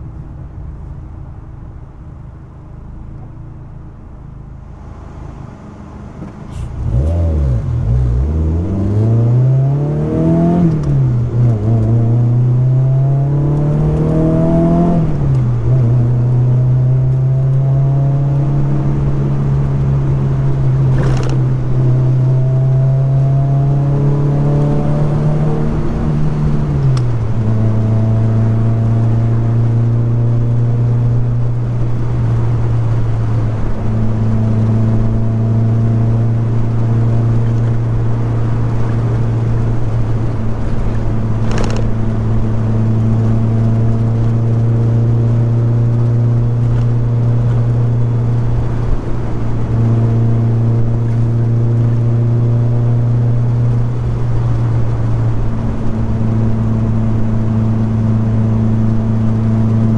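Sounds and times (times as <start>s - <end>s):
car engine cruising: 0.0s - 59.9s.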